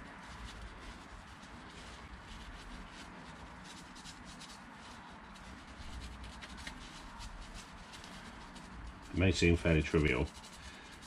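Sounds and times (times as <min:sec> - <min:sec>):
paper towel rubbing on metal: 0:00.0 - 0:11.0.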